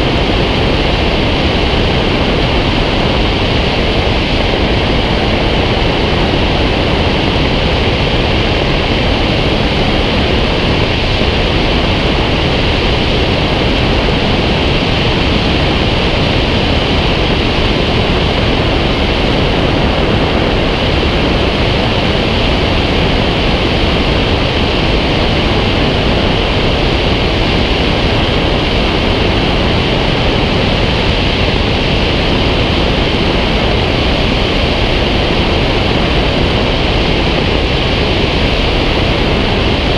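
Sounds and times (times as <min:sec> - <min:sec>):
wind roar: 0:00.0 - 0:39.9.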